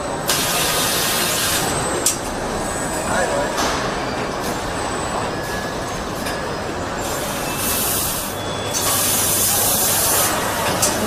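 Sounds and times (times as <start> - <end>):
machinery rumble and clatter: 0.0 - 11.0.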